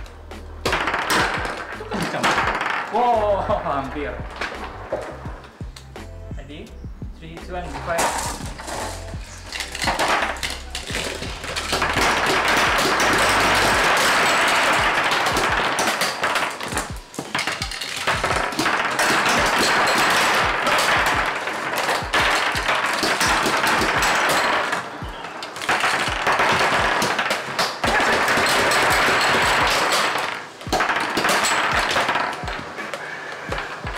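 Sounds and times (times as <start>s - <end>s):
upbeat background music: 0.0s - 33.9s
marbles clicking and clattering: 0.6s - 5.3s, 7.7s - 33.9s
plastic parts rattling on table: 0.7s - 3.2s, 7.7s - 33.9s.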